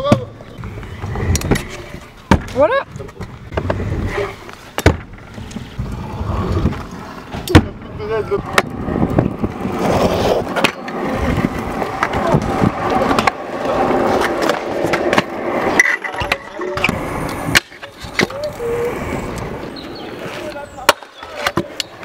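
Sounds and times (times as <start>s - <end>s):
scooter wheels rolling on concrete: 0.0s - 22.0s
scooters clacking on ledges: 0.0s - 22.0s.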